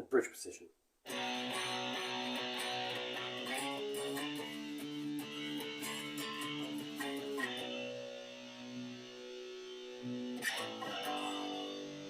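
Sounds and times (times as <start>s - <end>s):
electric guitar strumming chords: 1.1s - 12.0s.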